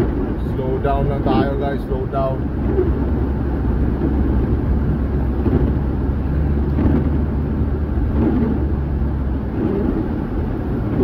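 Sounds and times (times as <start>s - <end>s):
car road rumble: 0.0s - 11.0s
tyre noise on wet road: 0.0s - 11.0s.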